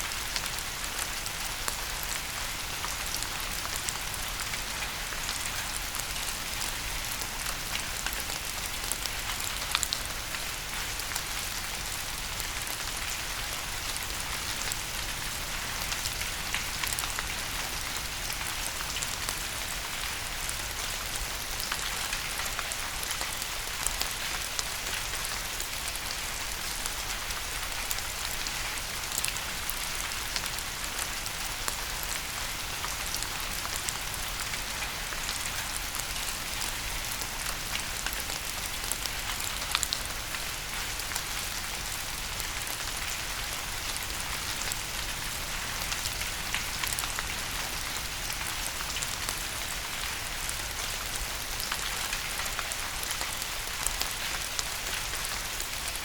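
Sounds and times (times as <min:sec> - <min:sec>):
steady rain hiss: 0:00.0 - 0:56.0
sharp drips and patters: 0:00.2 - 0:56.0.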